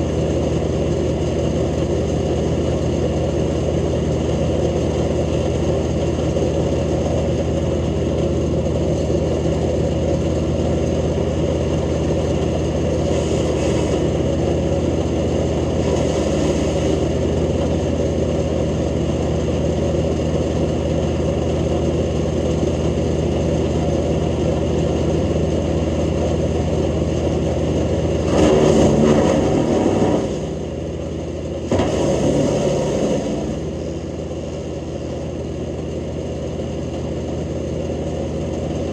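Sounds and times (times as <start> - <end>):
wood chipper running: 0.0 - 38.9.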